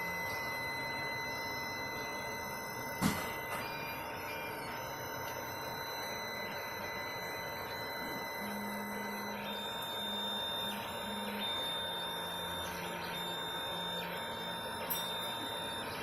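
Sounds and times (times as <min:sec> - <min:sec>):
stepper motors humming: 0:00.0 - 0:16.0.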